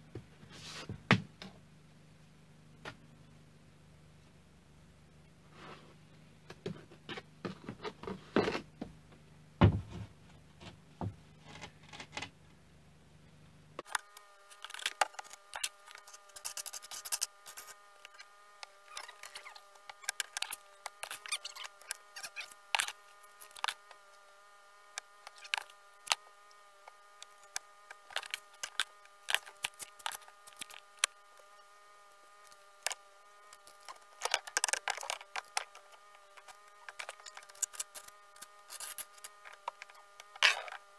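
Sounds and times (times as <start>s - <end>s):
steady buzzing hum: 0.0s - 40.9s.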